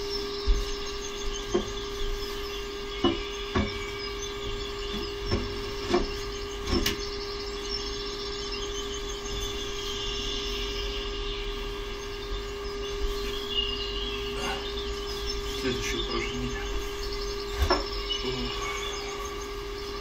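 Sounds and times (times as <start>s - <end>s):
faint bird chirping: 0.0s - 20.0s
steady hum: 0.0s - 20.0s.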